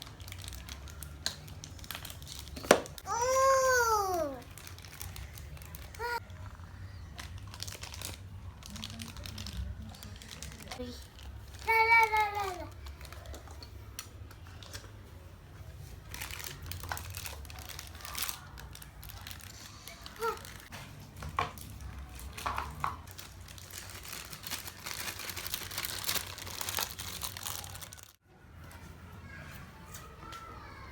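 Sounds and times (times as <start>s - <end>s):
plastic wrapping crinkling and tearing: 0.0s - 14.9s, 15.8s - 28.2s.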